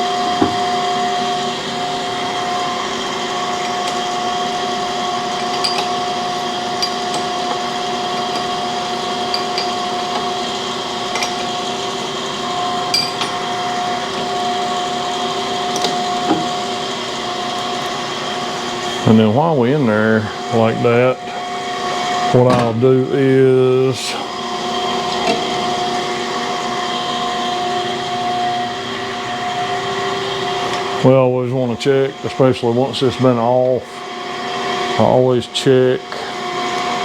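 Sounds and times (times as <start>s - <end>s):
grinding machine hum: 0.0s - 37.0s.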